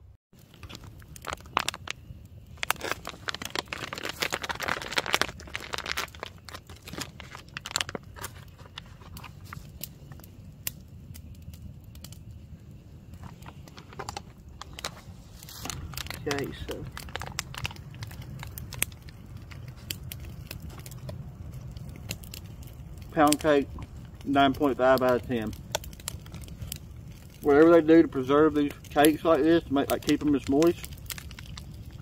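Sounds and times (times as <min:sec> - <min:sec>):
foil pouch crinkling and tearing: 0:00.4 - 0:10.2, 0:13.2 - 0:23.6, 0:24.2 - 0:32.0.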